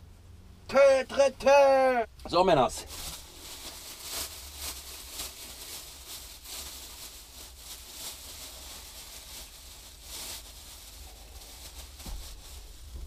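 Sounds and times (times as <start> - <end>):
low steady hum: 0.0 - 13.0
plastic bag rustling: 2.4 - 13.0.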